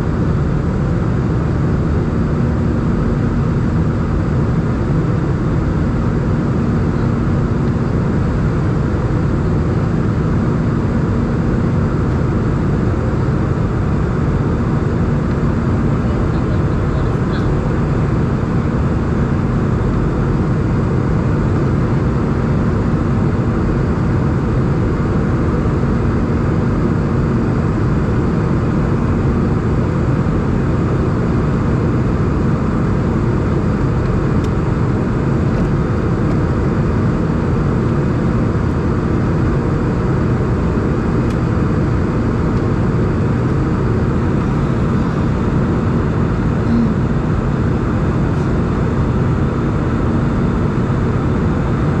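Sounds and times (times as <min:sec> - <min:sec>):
aircraft cabin engine noise: 0:00.0 - 0:52.0
faint steady hum: 0:00.0 - 0:52.0.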